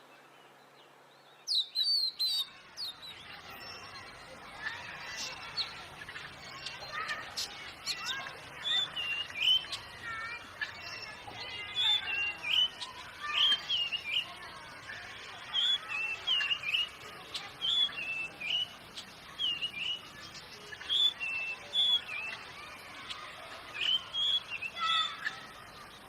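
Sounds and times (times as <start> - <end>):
faint bird chirps: 0.0 - 26.0
bird singing whistled notes: 1.2 - 14.8, 15.4 - 26.0.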